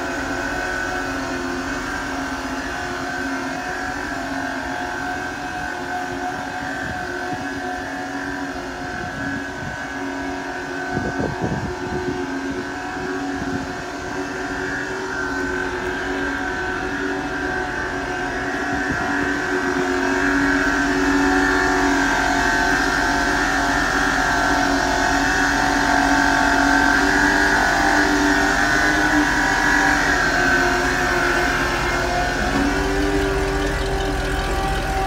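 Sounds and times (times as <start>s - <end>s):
fuel pump humming with whine: 0.0s - 35.0s.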